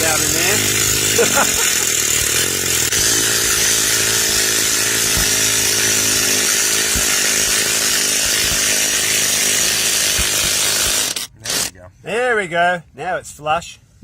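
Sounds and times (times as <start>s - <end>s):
cordless power tool running: 0.0s - 11.7s.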